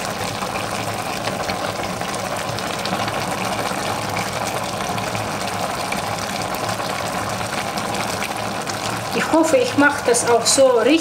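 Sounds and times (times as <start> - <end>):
pot bubbling: 0.0 - 11.0.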